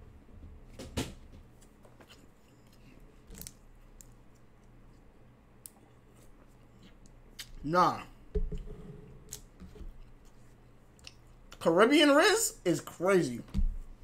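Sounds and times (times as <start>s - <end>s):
low room noise: 0.0s - 14.0s.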